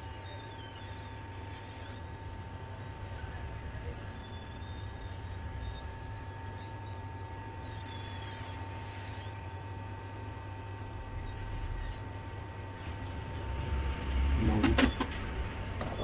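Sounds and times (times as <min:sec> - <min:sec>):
hot-air station blowing with whine: 0:00.0 - 0:16.0.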